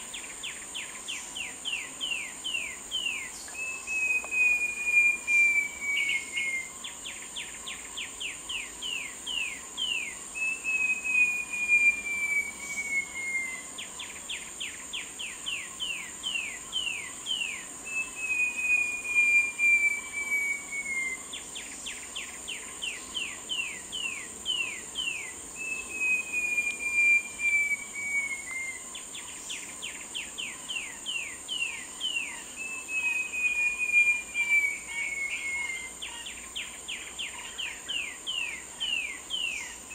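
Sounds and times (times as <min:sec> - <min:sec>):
bird singing whistled notes: 0:00.0 - 0:39.9
high insect drone: 0:00.0 - 0:39.9.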